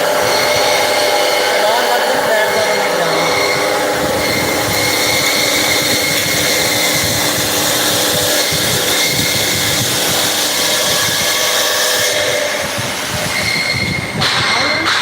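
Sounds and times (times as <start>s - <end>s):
machining centre hiss and whine: 0.0s - 15.0s.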